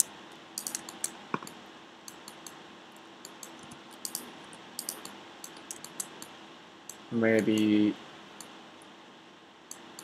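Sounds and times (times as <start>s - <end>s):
keyboard and mouse clicks: 0.0s - 7.8s, 9.7s - 10.0s
faint room hum: 0.0s - 10.0s.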